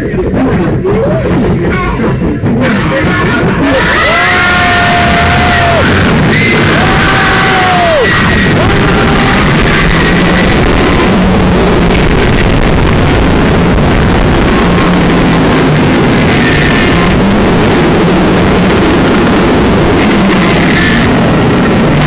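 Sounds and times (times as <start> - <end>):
roller coaster wheels rumbling: 0.0 - 22.0
wind rushing over microphone: 0.0 - 22.0.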